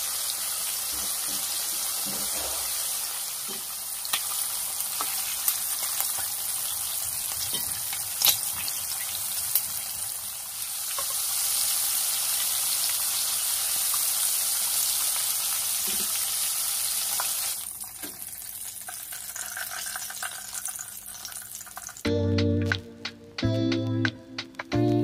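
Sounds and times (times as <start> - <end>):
shrimp sizzling in hot oil: 0.0 - 22.0.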